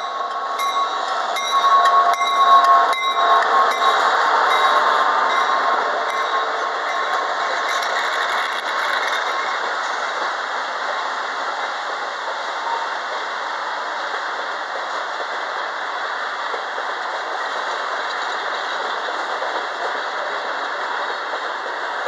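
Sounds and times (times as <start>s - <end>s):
steel wheels running on rails: 0.0s - 22.0s.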